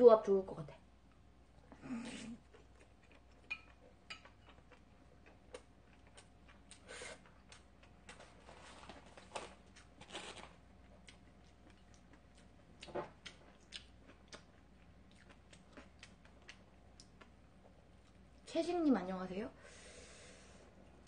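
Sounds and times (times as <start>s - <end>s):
faint chewing: 1.1s - 18.5s.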